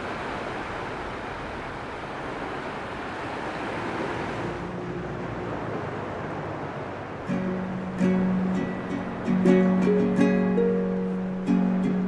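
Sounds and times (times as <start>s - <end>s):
gentle surf on sandy shore: 0.0s - 12.0s.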